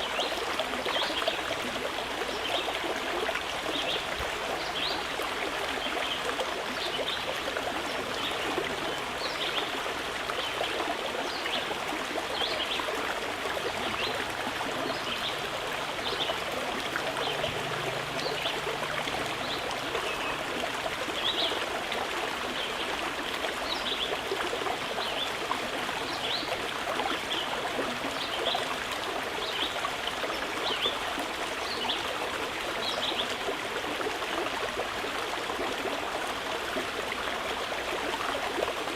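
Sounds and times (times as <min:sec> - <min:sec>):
river flowing over rocks: 0:01.4 - 0:38.9.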